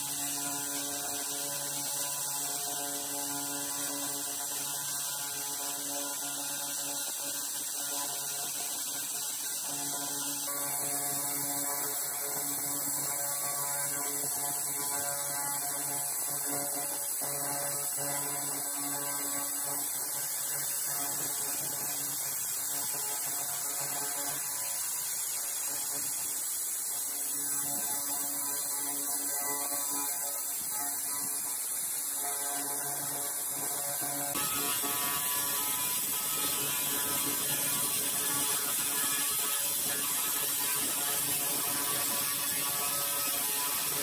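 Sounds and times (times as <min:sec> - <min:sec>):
high hiss: 0:00.0 - 0:44.0.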